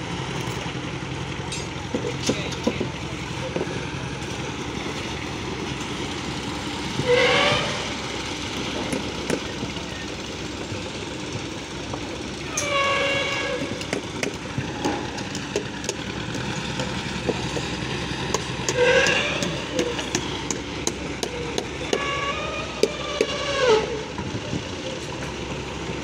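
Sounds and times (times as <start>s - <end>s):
machinery drone: 0.0s - 26.0s.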